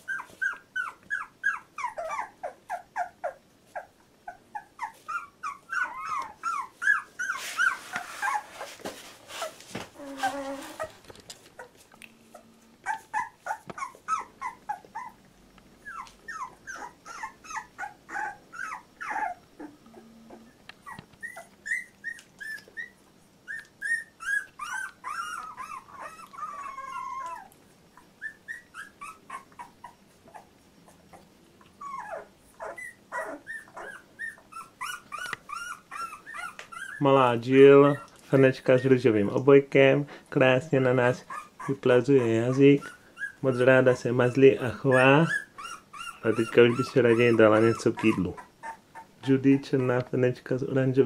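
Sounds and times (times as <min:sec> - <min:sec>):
puppies squeaking: 0:00.0 - 0:11.0, 0:11.6 - 0:15.2, 0:15.8 - 0:39.5, 0:40.6 - 0:50.2
puppies whining: 0:00.0 - 0:39.5, 0:40.5 - 0:50.2.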